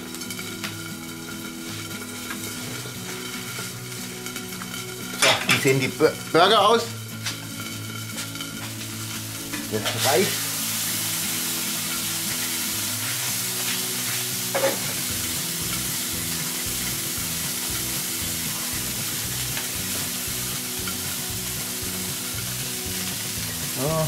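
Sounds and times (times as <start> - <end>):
food sizzling on a grill: 0.0 - 24.0.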